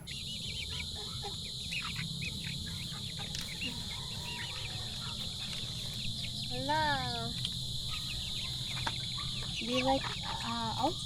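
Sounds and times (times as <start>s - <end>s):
chicks peeping: 0.0s - 11.0s
steady high-pitched drone: 0.0s - 11.0s.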